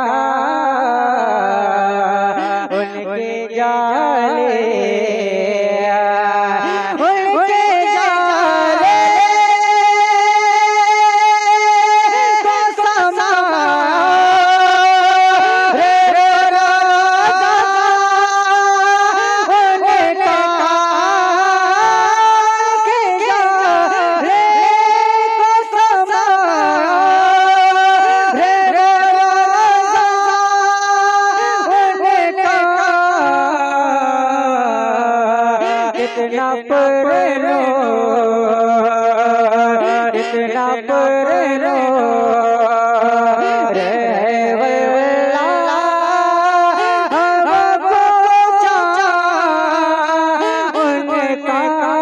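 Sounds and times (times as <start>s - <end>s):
man singing into a microphone: 0.0s - 52.0s.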